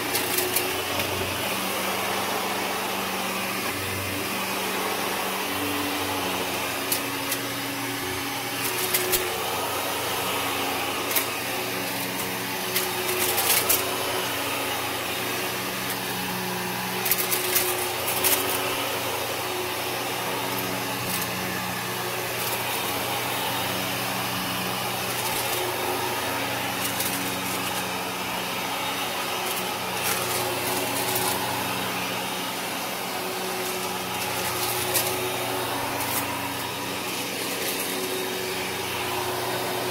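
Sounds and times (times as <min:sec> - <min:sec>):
vacuum cleaner motor drone: 0:00.0 - 0:39.9.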